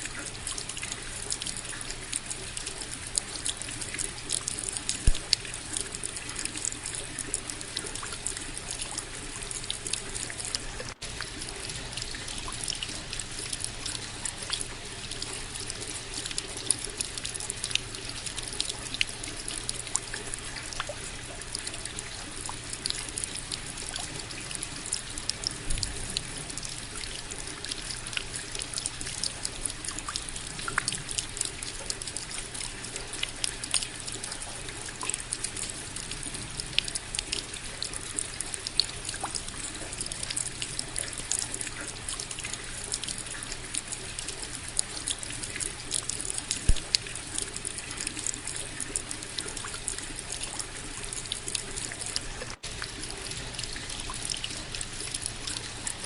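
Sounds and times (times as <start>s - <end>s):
rain patter: 0.0s - 56.0s
trickling running water: 0.0s - 56.0s.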